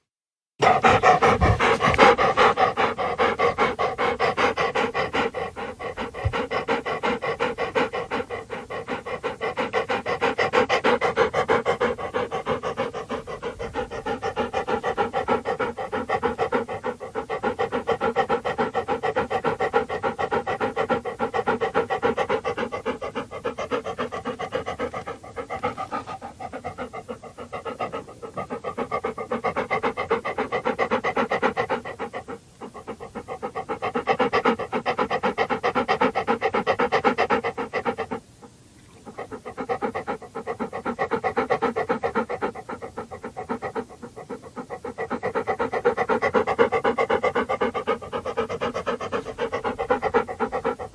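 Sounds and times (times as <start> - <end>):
dog panting: 0.6 - 50.9.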